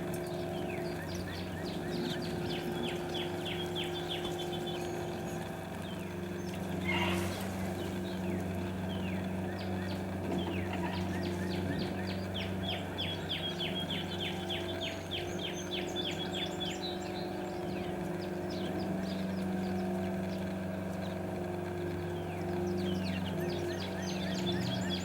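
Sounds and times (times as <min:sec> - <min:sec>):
steady low hum: 0:00.0 - 0:25.0
bird calls: 0:00.1 - 0:21.2, 0:22.0 - 0:25.0.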